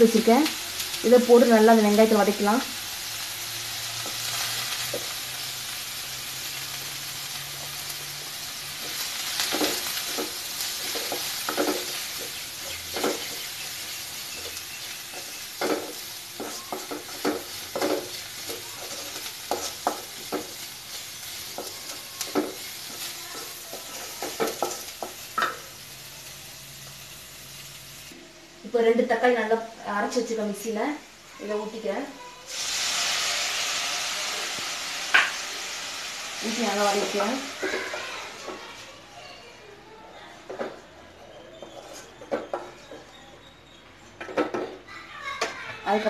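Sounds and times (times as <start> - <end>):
onions sizzling in oil: 0.0 - 39.6.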